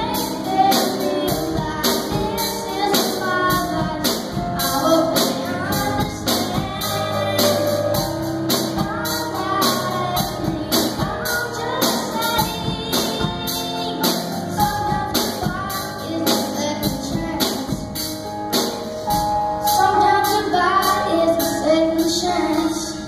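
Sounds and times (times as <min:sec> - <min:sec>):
boy singing: 0:00.0 - 0:18.0, 0:19.7 - 0:23.0
live band playing: 0:00.0 - 0:23.0.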